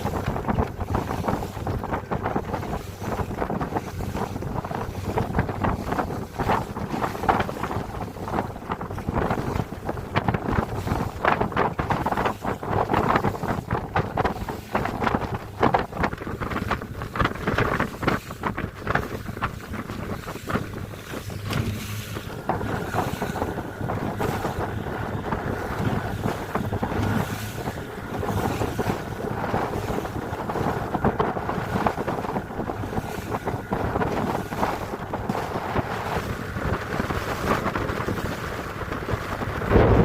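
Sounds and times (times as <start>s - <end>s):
knocks and splashes: 0.0s - 40.0s
water sounds: 0.0s - 40.0s
wind buffeting microphone: 0.0s - 40.0s.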